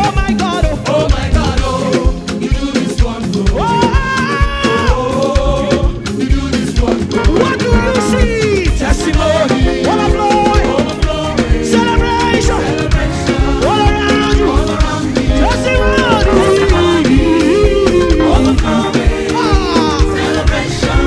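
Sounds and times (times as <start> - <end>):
band playing upbeat gospel music: 0.0 - 21.0
steady drum beat: 0.0 - 21.0.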